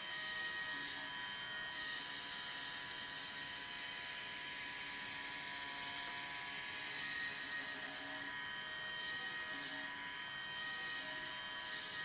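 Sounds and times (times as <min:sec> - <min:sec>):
gyroscope motor whine: 0:00.0 - 0:12.0.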